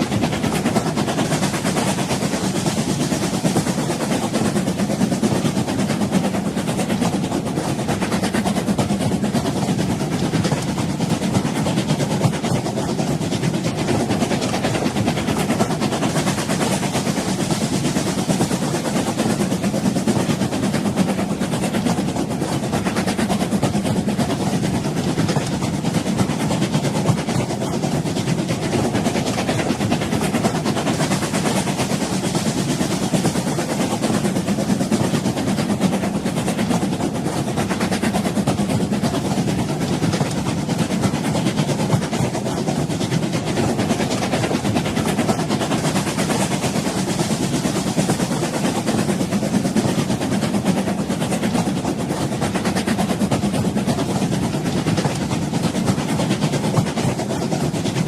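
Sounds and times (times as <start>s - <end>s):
train rumbling and rattling: 0.0s - 58.0s.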